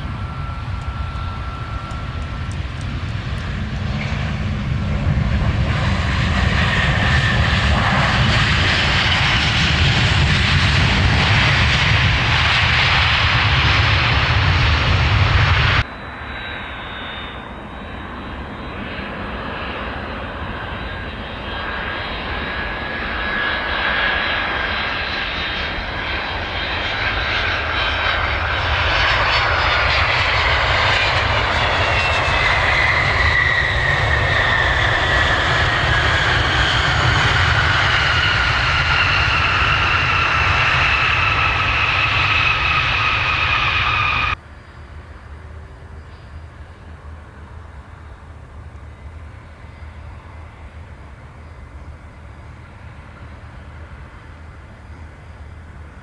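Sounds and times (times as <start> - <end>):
jet engines passing: 0.0 - 44.4, 46.5 - 56.0.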